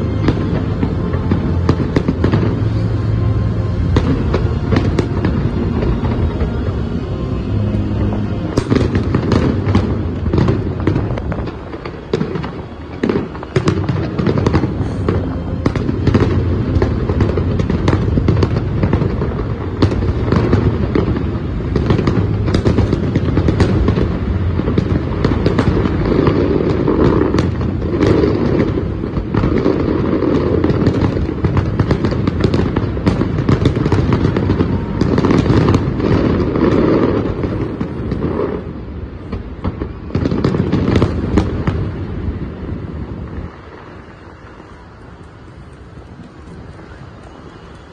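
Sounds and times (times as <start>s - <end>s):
low fireworks rumble: 0.0s - 47.9s.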